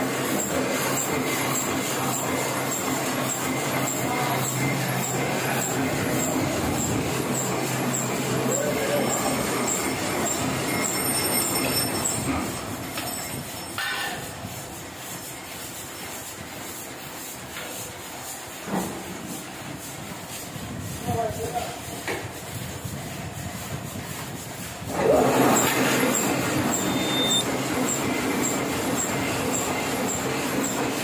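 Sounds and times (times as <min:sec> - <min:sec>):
printing press running: 0:00.0 - 0:13.6, 0:14.2 - 0:31.0.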